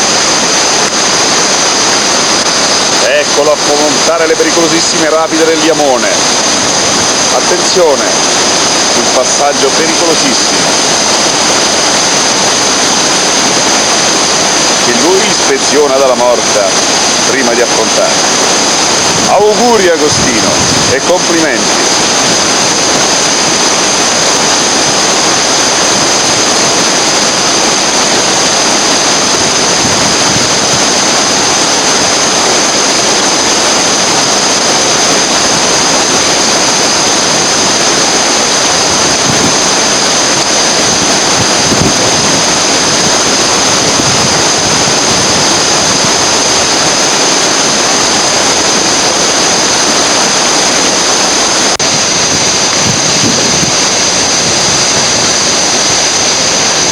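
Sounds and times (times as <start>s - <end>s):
river rapids rushing: 0.0s - 56.9s.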